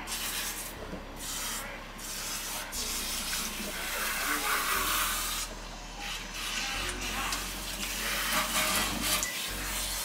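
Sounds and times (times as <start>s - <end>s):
faucet water running: 0.0s - 10.0s.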